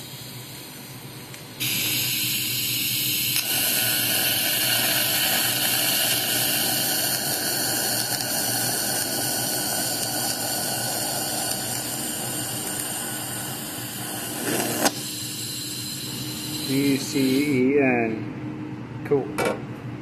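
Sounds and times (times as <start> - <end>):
welding arc hissing: 0.0 - 17.6.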